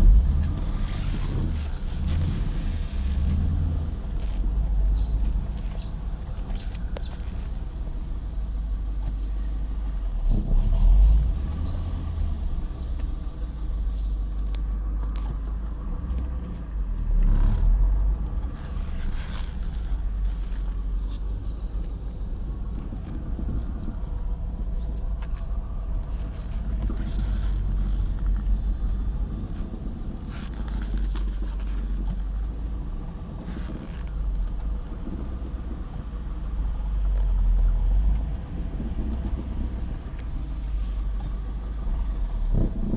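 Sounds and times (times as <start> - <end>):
engine idling roughly: 0.0 - 42.9.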